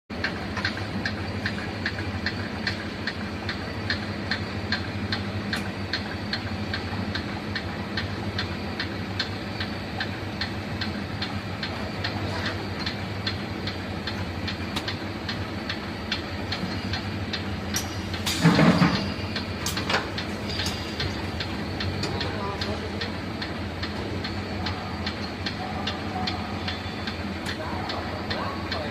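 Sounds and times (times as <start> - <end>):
regular ticking: 0.2 - 18.2, 19.3 - 28.9.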